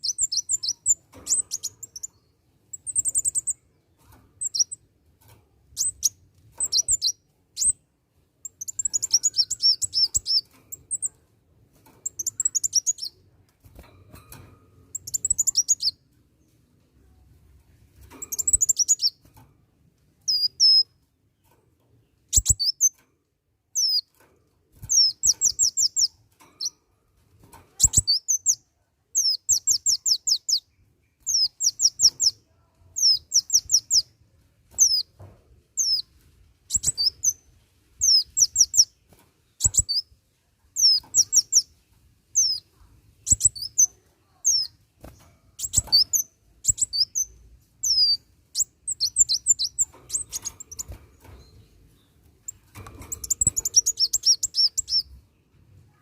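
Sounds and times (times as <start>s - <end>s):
bird chirping: 0.0s - 4.8s, 5.7s - 11.3s, 12.0s - 13.3s, 14.8s - 17.2s, 18.0s - 19.3s, 20.2s - 21.5s, 22.1s - 23.0s, 23.7s - 24.1s, 24.8s - 26.8s, 27.7s - 35.2s, 35.8s - 55.2s.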